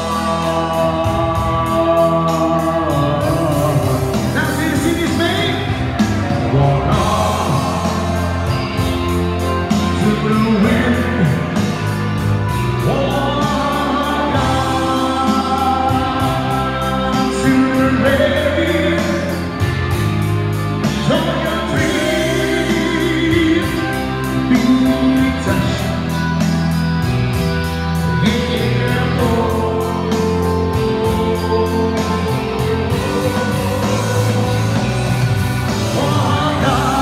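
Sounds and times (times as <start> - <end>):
party music with singing: 0.0 - 37.0.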